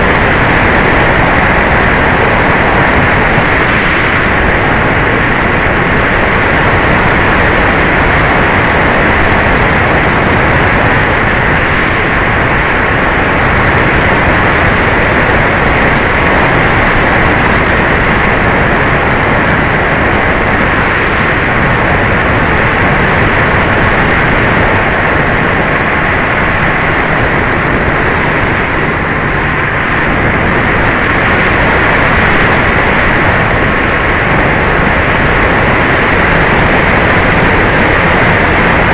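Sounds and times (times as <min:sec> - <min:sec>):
electric motor and propeller: 0:00.0 - 0:38.9
faint steady whine: 0:00.0 - 0:38.9
rush of airflow: 0:00.0 - 0:38.9.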